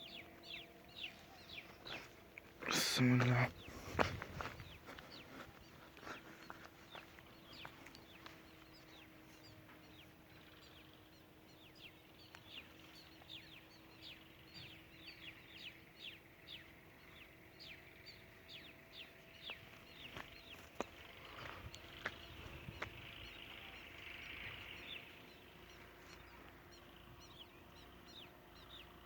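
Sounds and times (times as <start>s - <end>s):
rapid bird chirping: 0.0s - 29.0s.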